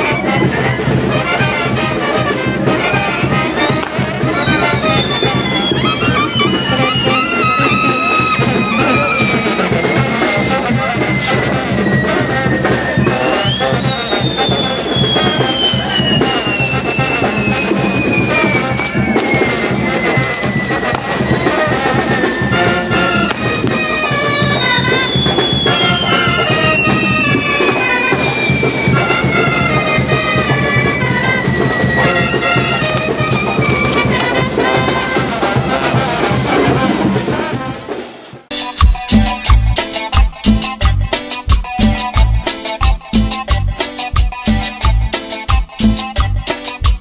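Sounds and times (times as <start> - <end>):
descending firework whistles: 0.0 - 38.0
fireworks burning: 0.0 - 39.6
brass band music: 0.0 - 47.0.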